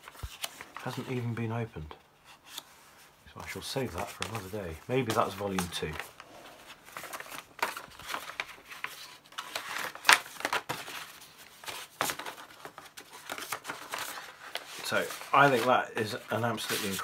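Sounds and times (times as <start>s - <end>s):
paper and packaging rustling: 0.0s - 1.6s, 2.2s - 17.0s.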